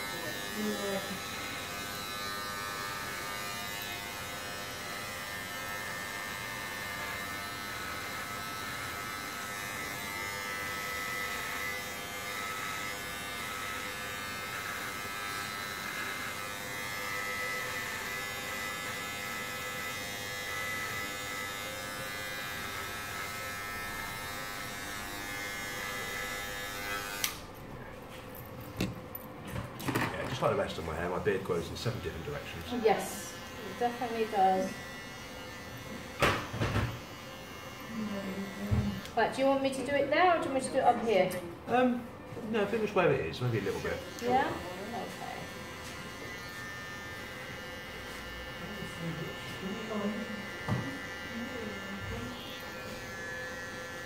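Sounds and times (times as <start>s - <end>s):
electric hair clippers buzzing: 0.0s - 27.7s, 29.8s - 42.0s, 42.6s - 54.0s.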